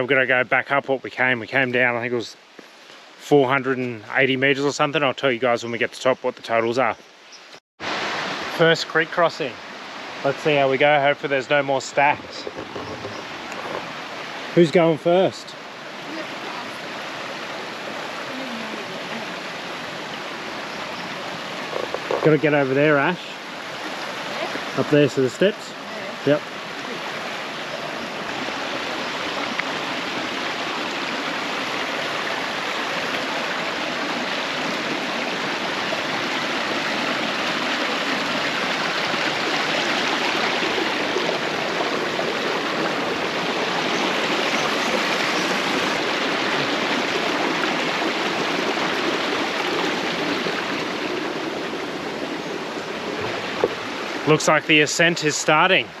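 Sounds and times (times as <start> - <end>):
creek water splashing over rocks: 7.8 - 56.0.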